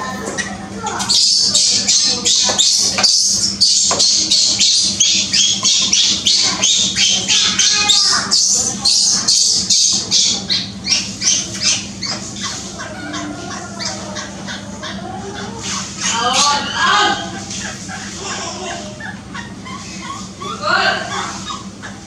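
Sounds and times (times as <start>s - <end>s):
infant monkey screaming: 0.0s - 22.0s.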